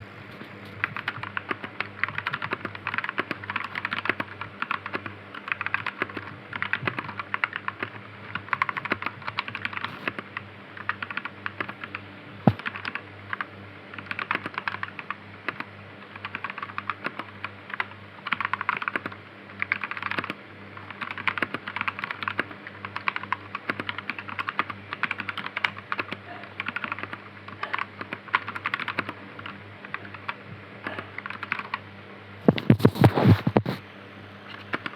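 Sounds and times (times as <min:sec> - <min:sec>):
mechanical keyboard typing: 0:00.6 - 0:31.8, 0:34.6 - 0:34.9.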